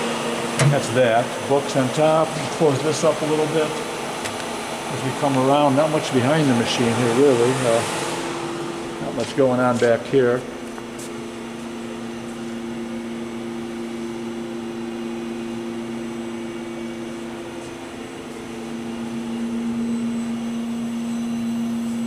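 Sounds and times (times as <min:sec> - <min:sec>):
idle lathe humming: 0:00.0 - 0:22.0.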